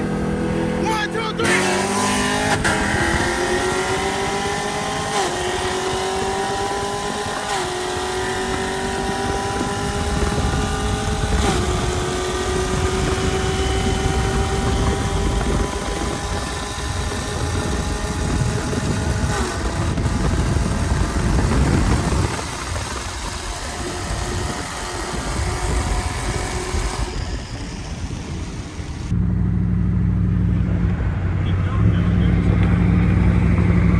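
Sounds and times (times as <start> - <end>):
truck engine accelerating: 0.0 - 33.9
wind and road noise: 0.0 - 33.9.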